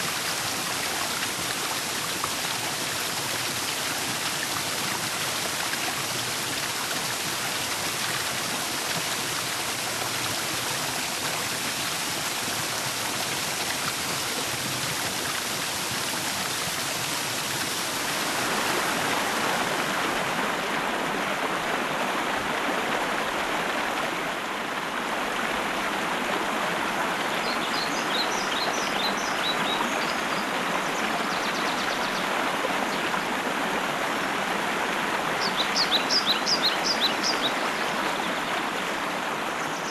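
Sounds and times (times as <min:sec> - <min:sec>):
water rushing in a stream: 0:00.0 - 0:39.9.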